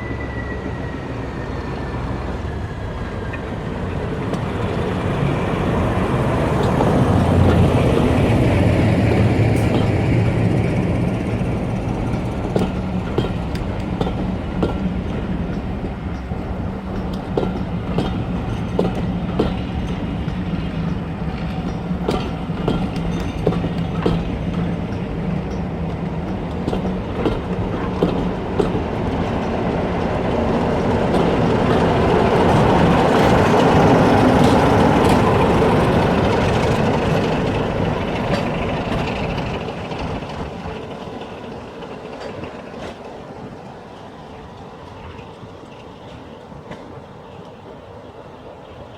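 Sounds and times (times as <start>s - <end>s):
train wheels clicking over rail joints: 2.8s - 48.9s.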